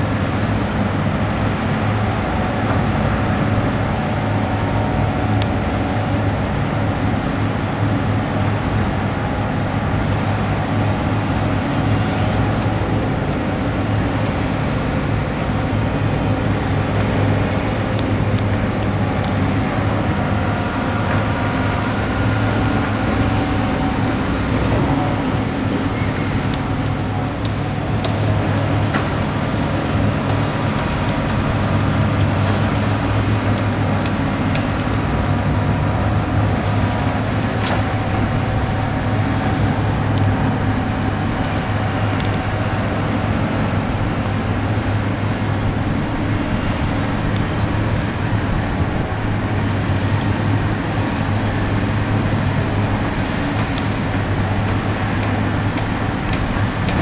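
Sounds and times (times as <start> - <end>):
diesel construction machinery drone: 0.0 - 57.0.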